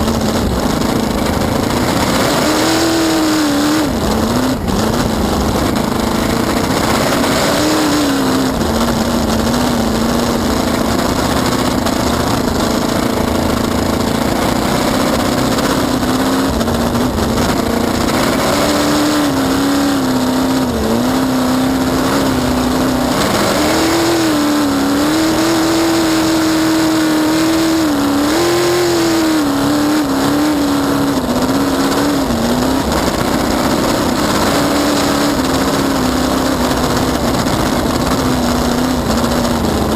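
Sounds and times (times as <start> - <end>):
boat engine running hard: 0.0 - 39.9
water noise: 0.0 - 39.9
wind noise: 0.0 - 39.9.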